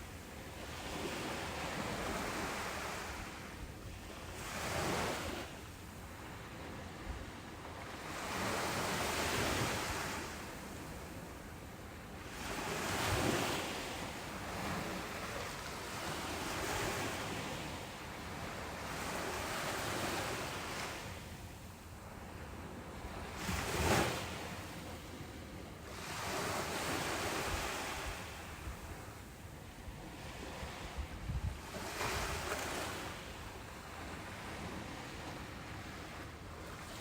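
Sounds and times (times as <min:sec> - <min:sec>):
ocean waves breaking on beach: 0:00.0 - 0:37.0.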